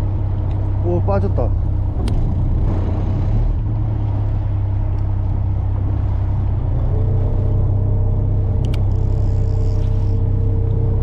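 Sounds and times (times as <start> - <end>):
boat engine droning: 0.0 - 11.0
steady higher hum: 0.0 - 11.0.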